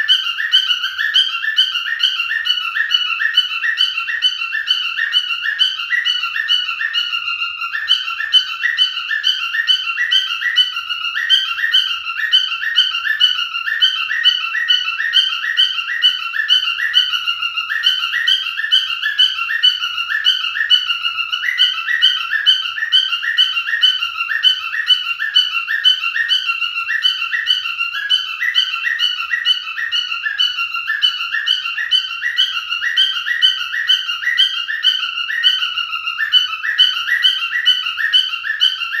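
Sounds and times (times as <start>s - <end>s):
cockatiel chirping whistles: 0.0s - 39.0s.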